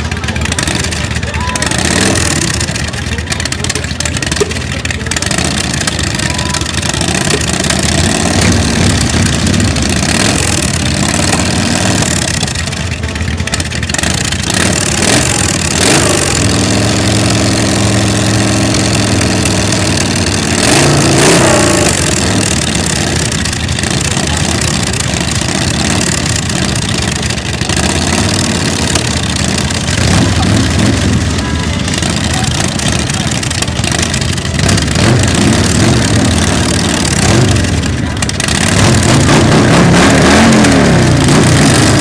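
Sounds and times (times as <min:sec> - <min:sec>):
motorcycle engines idling and revving: 0:00.0 - 0:42.0.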